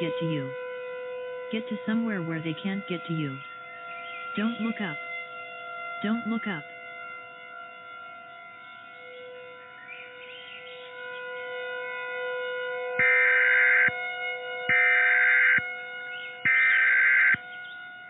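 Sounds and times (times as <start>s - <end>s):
drone of held tones: 0.0s - 18.0s.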